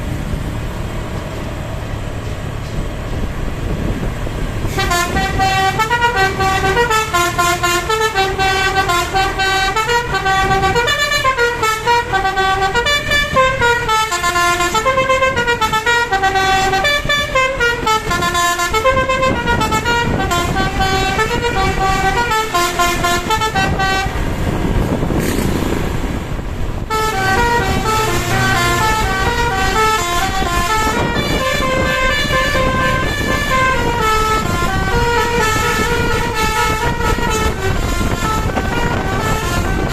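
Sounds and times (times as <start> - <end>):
bus air horn playing melody: 4.6 - 25.6, 26.9 - 39.9.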